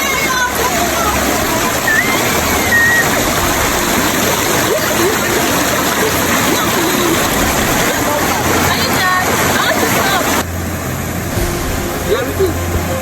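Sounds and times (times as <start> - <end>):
faint voices: 0.0 - 10.5, 11.3 - 13.0
waterfall roaring: 0.0 - 13.0.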